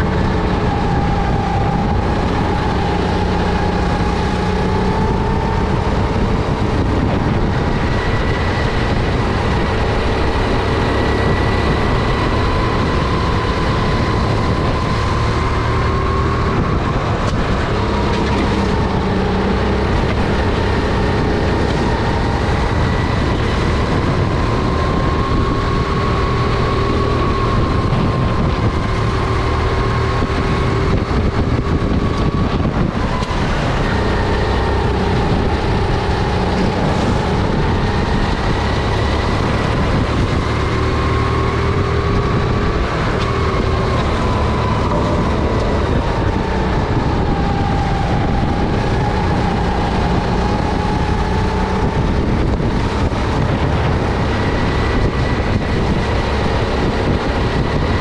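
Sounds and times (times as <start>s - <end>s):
kart engine running at speed: 0.0s - 58.0s.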